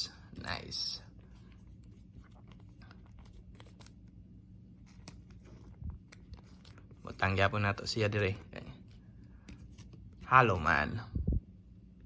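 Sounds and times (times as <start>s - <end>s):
low steady hum: 0.0s - 12.0s
trading cards being handled: 0.2s - 10.8s.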